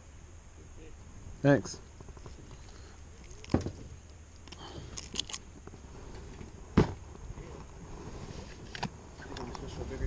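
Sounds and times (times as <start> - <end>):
rustling and crackling: 1.7 - 10.0.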